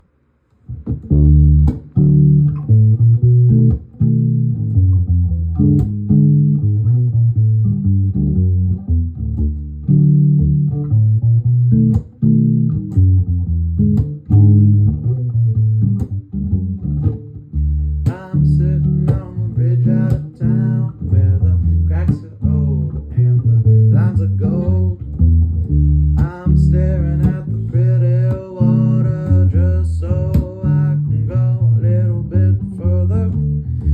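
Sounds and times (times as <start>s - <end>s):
plucked bass guitar: 0.7s - 33.9s.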